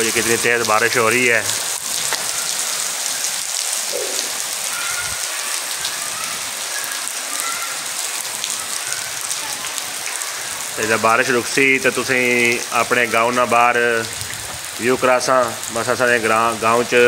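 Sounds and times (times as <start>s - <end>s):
heavy rain on concrete: 0.0s - 17.0s.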